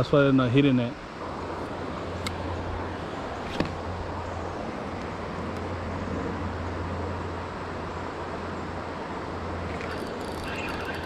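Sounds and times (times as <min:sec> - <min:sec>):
river water rushing: 0:01.0 - 0:11.0.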